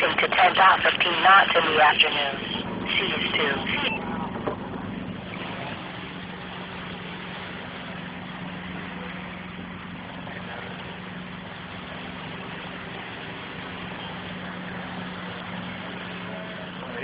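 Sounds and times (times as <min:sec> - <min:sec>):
motorboat engine idling: 0:00.0 - 0:17.0.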